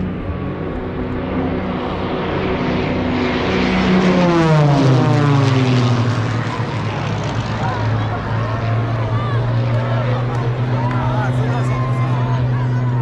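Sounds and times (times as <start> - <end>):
small planes droning overhead: 0.0 - 13.0.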